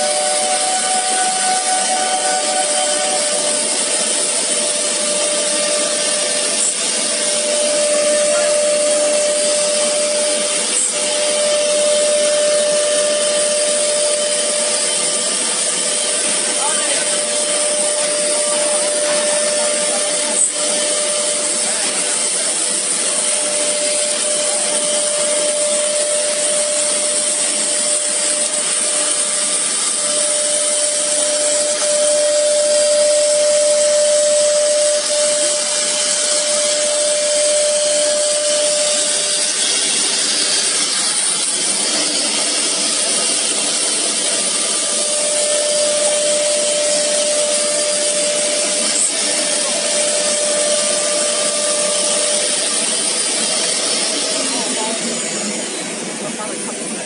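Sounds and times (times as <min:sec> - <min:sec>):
high whine: 0:00.0 - 0:57.0
router cutting hiss: 0:00.0 - 0:57.0.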